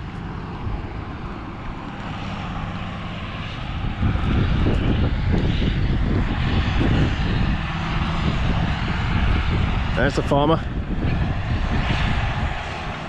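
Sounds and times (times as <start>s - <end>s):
farm machinery engine: 0.0s - 13.0s
wind buffeting microphone: 0.0s - 13.0s.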